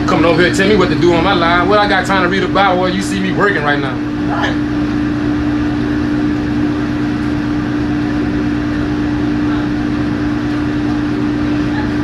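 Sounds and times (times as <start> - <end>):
kitchen machinery droning: 0.0 - 12.0.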